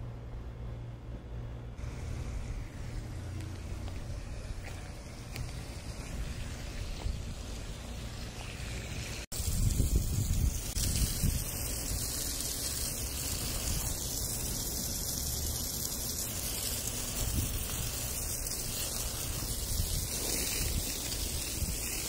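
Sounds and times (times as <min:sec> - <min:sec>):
hose water spraying onto grass: 0:01.8 - 0:22.0.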